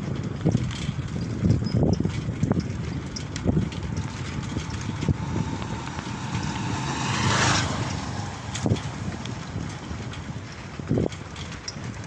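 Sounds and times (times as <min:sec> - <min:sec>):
bicycle rolling on paved road: 0:00.0 - 0:12.0
wind buffeting microphone: 0:00.0 - 0:12.0.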